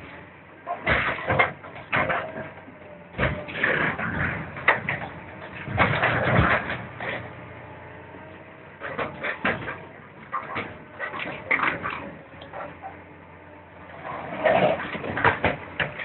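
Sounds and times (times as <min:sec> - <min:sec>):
metal creaking and crunching: 0:00.0 - 0:16.0.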